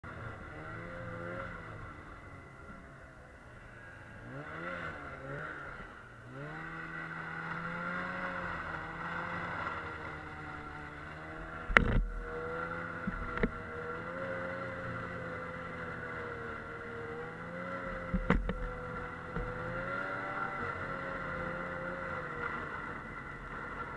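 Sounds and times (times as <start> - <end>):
snowmobile engine running: 0.0 - 23.9.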